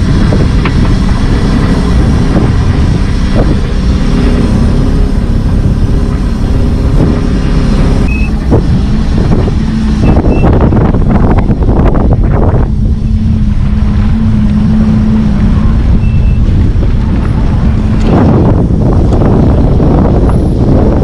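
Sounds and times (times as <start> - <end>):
motorboat engine humming: 0.0 - 21.0
rushing water noise: 0.0 - 21.0.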